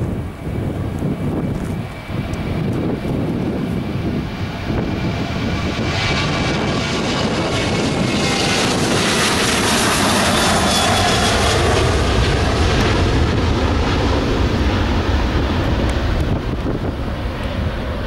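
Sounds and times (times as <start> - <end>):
jet engines at takeoff thrust: 0.0 - 18.0.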